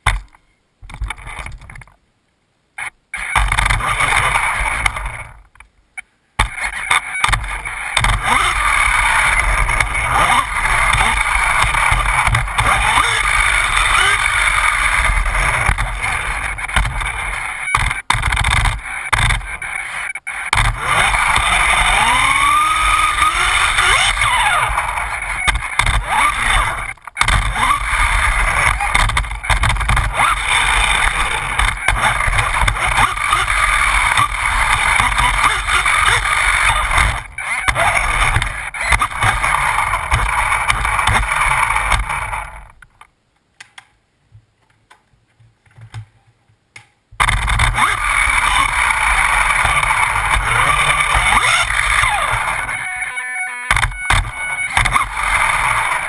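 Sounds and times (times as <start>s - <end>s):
drivetrain and tyre noise: 0.0s - 56.0s
electric motor whining: 6.4s - 42.7s, 47.2s - 56.0s.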